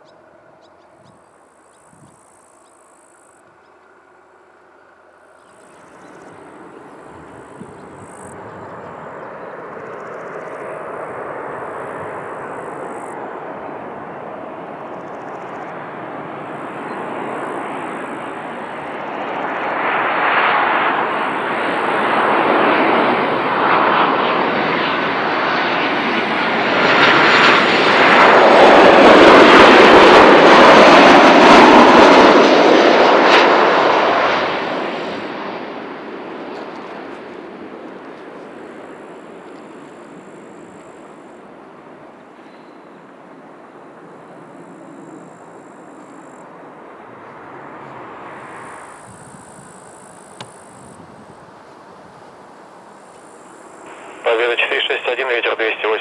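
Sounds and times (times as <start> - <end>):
jet airliner passing: 0.2 - 56.0.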